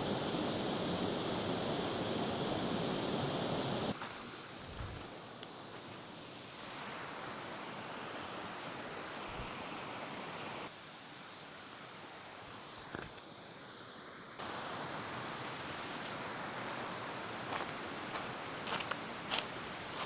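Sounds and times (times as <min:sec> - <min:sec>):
creek water flowing: 0:00.0 - 0:10.7, 0:14.4 - 0:20.0.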